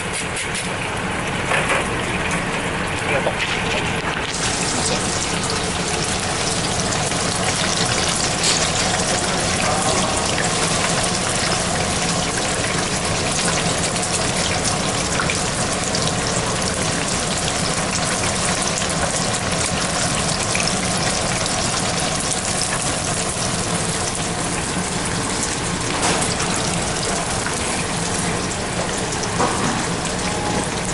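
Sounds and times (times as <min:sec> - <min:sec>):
deep-frying sizzle and crackle: 0:00.0 - 0:30.9.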